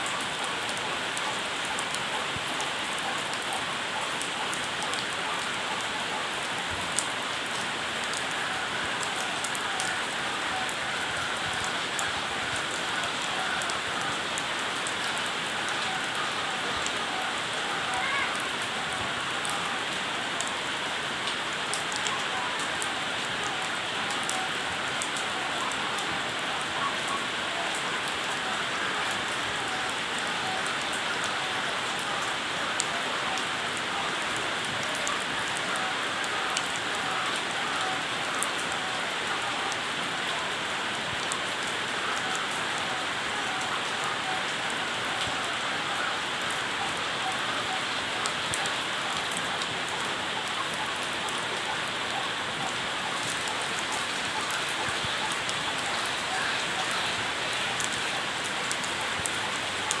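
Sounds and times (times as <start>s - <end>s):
raindrops ticking: 0.0s - 60.0s
steady rain falling: 0.0s - 60.0s.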